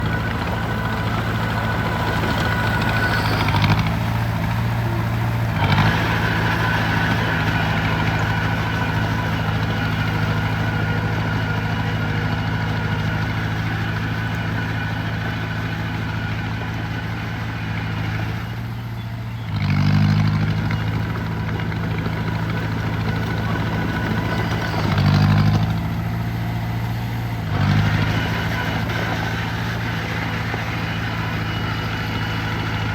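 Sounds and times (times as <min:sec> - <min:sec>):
diesel engine revving: 0:00.0 - 0:32.9.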